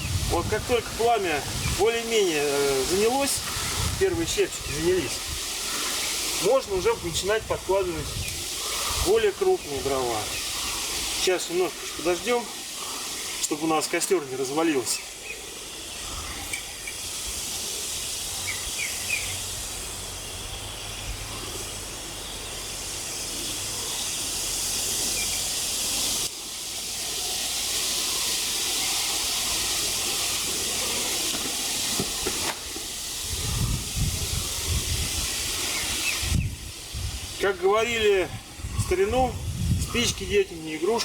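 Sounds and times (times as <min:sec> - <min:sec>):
kindling fire hissing: 0:00.0 - 0:41.0.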